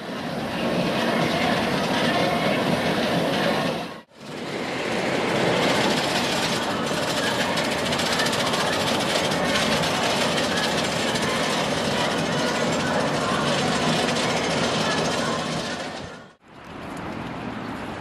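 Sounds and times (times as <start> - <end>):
roller coaster train running: 0.0 - 16.4.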